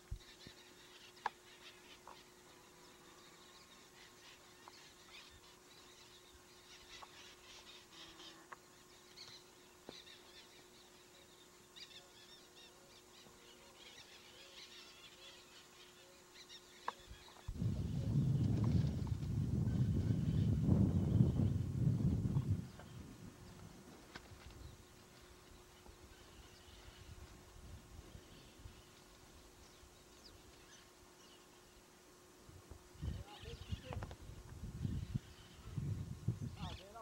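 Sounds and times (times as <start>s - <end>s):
faint bird chirping: 0.0s - 23.6s, 24.4s - 37.0s
faint steady hum: 0.0s - 37.0s.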